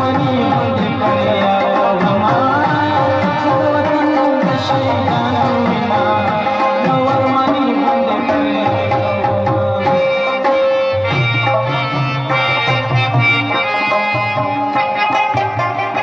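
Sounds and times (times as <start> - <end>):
folk music melody: 0.0 - 16.0
tabla drumming: 0.0 - 16.0.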